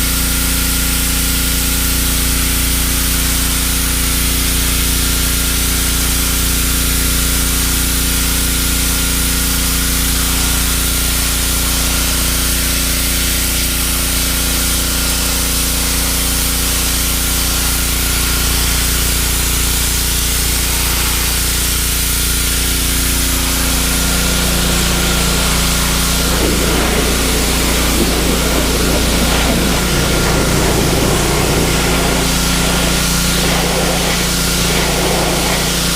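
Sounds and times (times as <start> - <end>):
pressure washer motor drone: 0.0 - 35.9
water jet hissing: 0.0 - 35.9.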